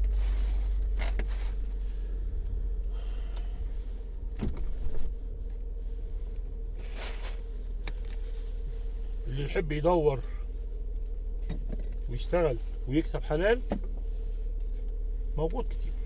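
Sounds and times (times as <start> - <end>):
faint hum: 0.0 - 16.0
low rumble: 0.0 - 16.0.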